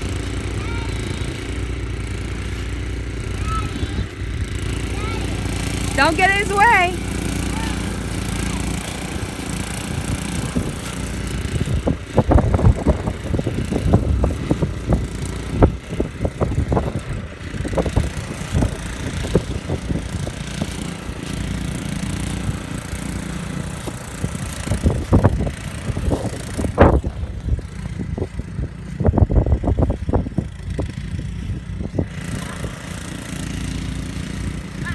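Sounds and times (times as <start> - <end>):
snowblower engine running: 0.0 - 34.9.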